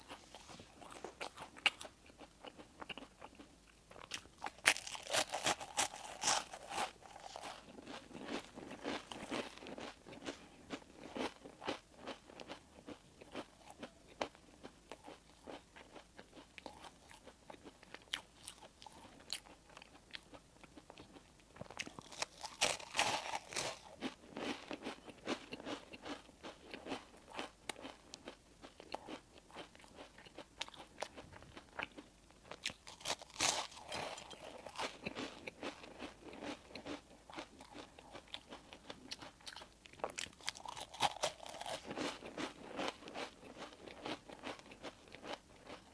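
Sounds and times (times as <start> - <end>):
chewing with crisp crunching: 0.0 - 45.9.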